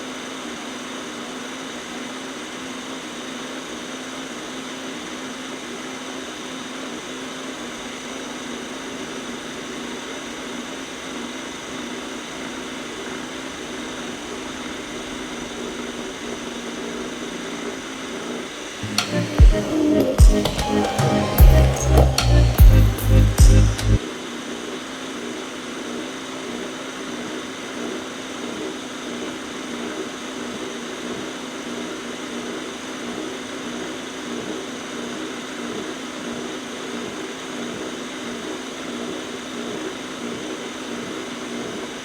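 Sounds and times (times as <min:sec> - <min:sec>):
robot vacuum running: 0:00.0 - 0:42.0.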